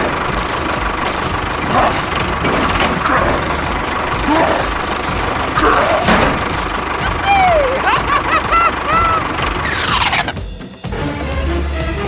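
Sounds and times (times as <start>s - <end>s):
small tractor motor running: 0.0s - 10.5s.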